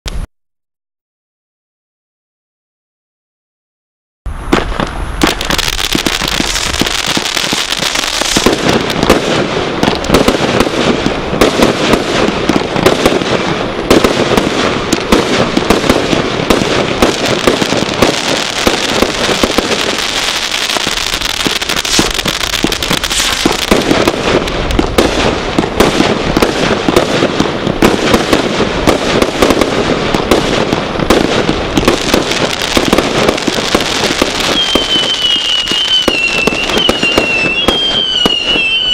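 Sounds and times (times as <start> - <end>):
roman candle fireworks firing: 4.3 - 38.9.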